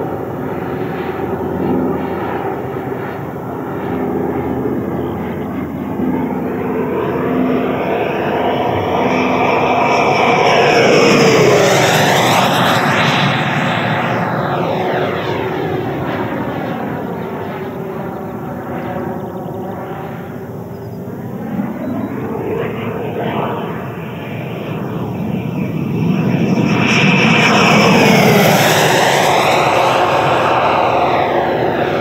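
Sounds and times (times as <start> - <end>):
model jet fan whine: 0.0 - 32.0.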